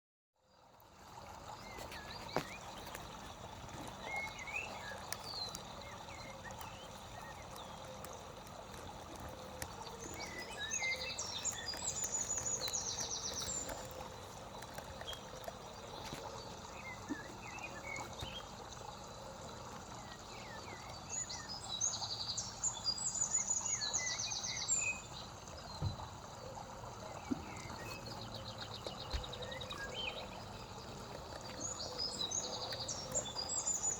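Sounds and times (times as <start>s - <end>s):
running water: 0.4s - 33.9s
birds chirping: 0.5s - 33.9s.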